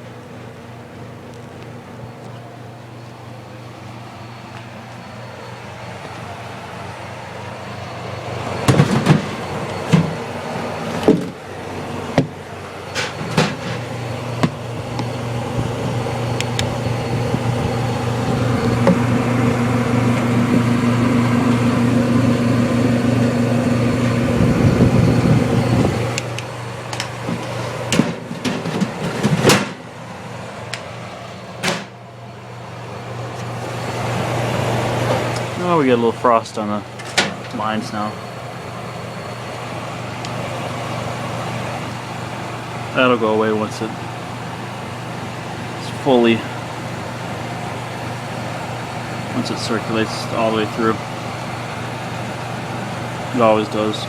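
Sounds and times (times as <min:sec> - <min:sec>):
dehumidifier humming: 0:00.0 - 0:54.0.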